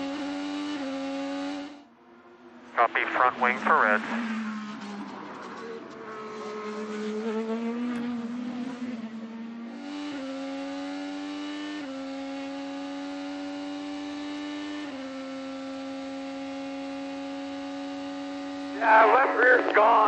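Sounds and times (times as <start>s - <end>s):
race car engine running: 2.3s - 20.0s.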